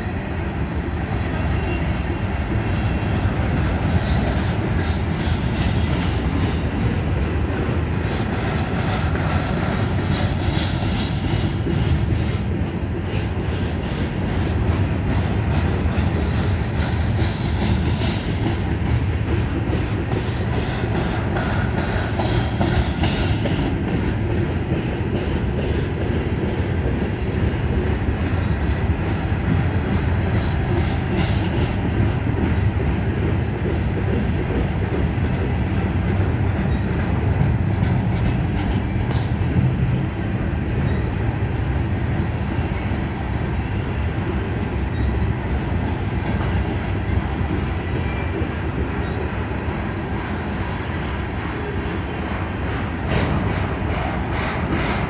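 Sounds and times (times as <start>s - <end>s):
freight train rolling past: 0.0s - 55.0s
wheels clattering on rails: 1.5s - 55.0s.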